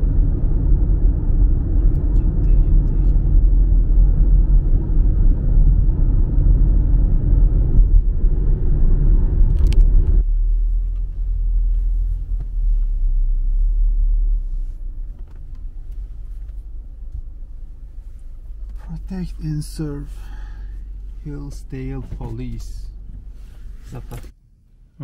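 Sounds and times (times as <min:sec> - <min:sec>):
car road noise: 0:00.0 - 0:25.0.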